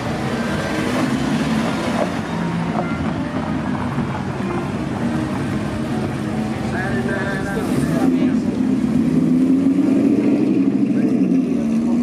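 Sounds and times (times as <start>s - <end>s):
car engine and exhaust: 0.0s - 12.0s.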